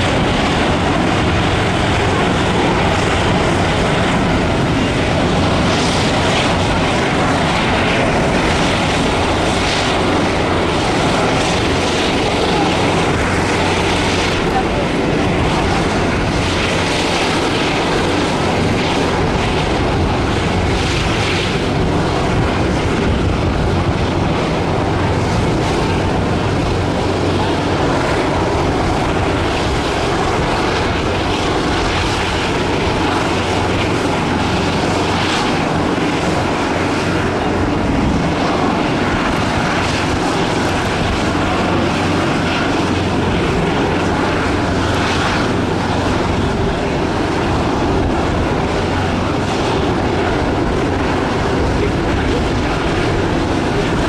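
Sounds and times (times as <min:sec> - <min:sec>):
loud jet engine noise: 0:00.0 - 0:54.0.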